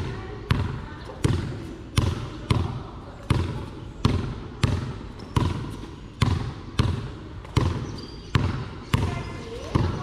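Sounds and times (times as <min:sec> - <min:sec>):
basketball bouncing on court: 0:00.0 - 0:10.0.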